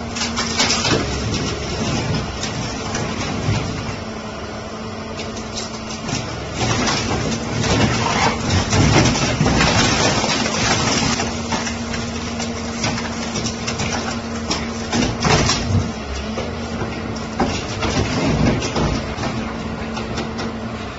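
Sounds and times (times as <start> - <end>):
sheet metal crunching and tearing: 0.0 - 4.0, 5.2 - 20.2
excavator diesel engine running: 0.0 - 20.9.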